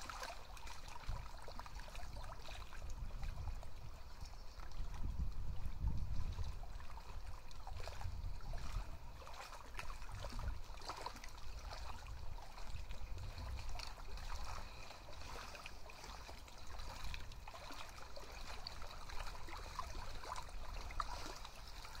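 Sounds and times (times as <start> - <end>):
lake water lapping among stones: 0.0 - 22.0.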